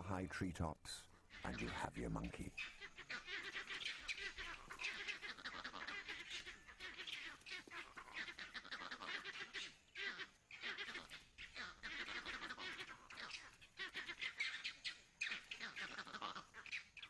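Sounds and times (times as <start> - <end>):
monkeys shrill calling: 1.3 - 17.0.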